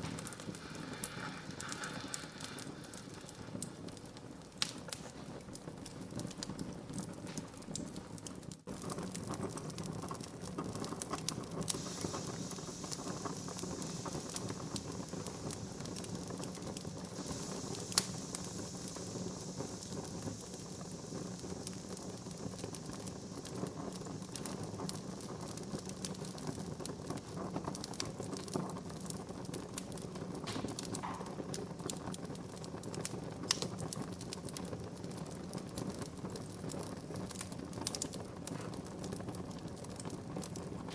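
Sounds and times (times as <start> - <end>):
fire crackling and popping: 0.0 - 40.9
fire hissing: 0.0 - 40.9
low rumble of flame: 0.0 - 40.9.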